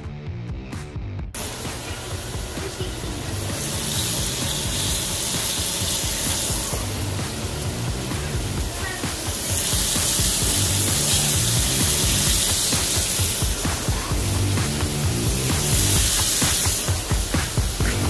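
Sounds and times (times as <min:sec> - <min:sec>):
background music: 0:00.0 - 0:18.0
meat sizzling in a skillet: 0:01.4 - 0:18.0.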